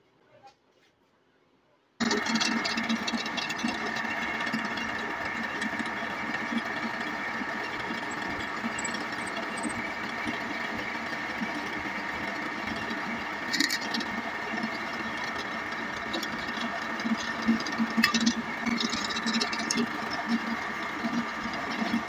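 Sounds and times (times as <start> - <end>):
drill press boring into wood: 2.0 - 22.0.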